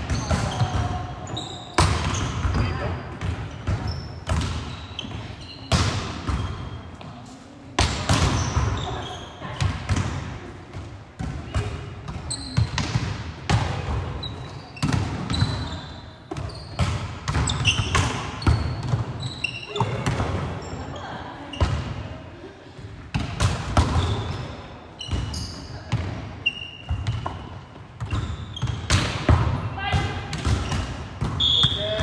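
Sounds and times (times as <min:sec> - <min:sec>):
volleyball slaps with echo: 0:01.8 - 0:07.1, 0:07.7 - 0:14.2, 0:14.8 - 0:15.6, 0:16.3 - 0:20.6, 0:23.0 - 0:32.0.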